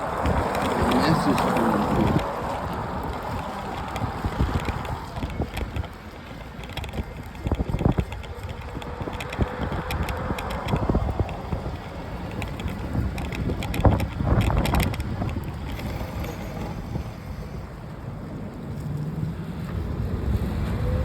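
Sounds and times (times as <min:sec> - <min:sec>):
bicycle clicks and knocks: 0:00.0 - 0:17.8
wind buffeting microphone: 0:00.0 - 0:21.0.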